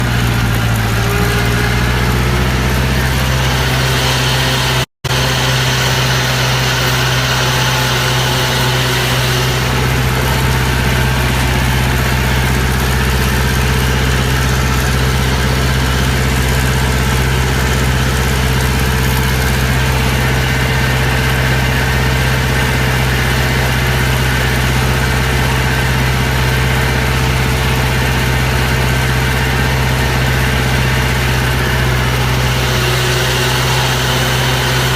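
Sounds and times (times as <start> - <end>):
farm machine engine idling: 0.0 - 34.9.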